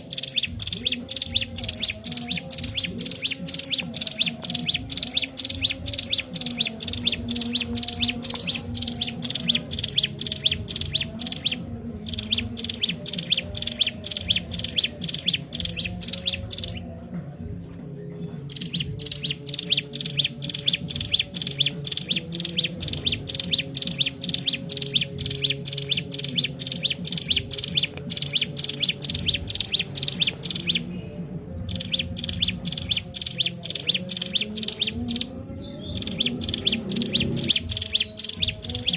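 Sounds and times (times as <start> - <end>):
bird singing rapid high chirps: 0.0 - 38.9.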